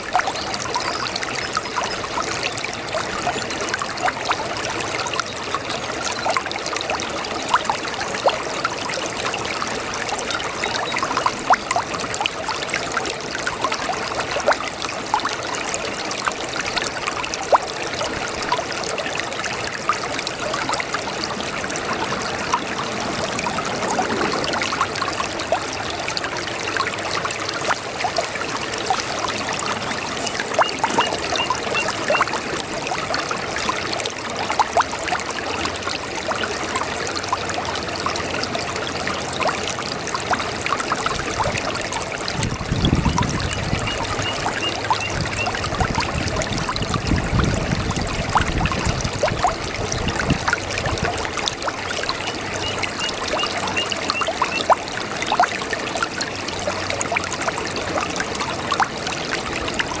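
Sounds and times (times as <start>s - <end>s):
brook babbling: 0.0s - 60.0s
deep water gurgle: 0.0s - 60.0s.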